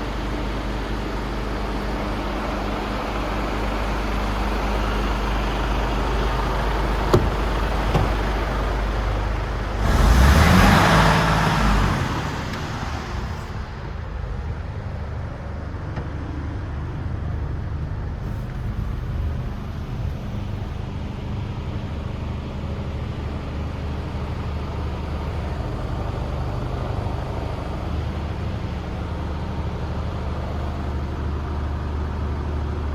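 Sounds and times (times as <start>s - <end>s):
diesel truck engine idling: 0.0s - 32.9s.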